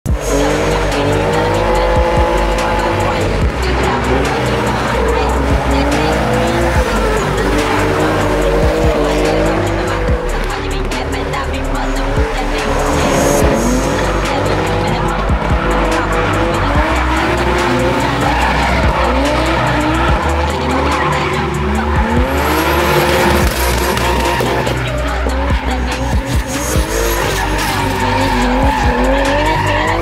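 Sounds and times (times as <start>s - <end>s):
car engines revving: 0.0s - 30.0s
background music with deep bass: 0.1s - 30.0s
tyres squealing: 0.3s - 30.0s.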